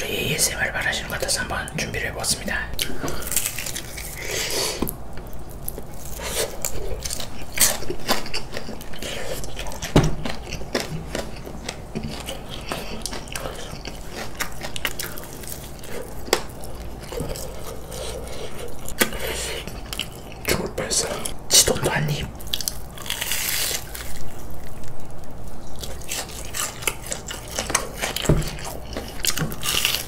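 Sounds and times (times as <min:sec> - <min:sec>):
crunchy biting and chewing: 0:02.5 - 0:30.0.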